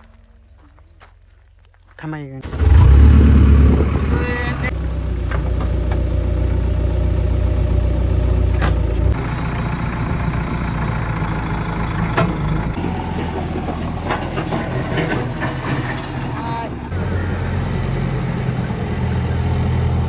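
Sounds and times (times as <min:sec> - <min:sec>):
diesel engine droning: 0:02.4 - 0:20.0.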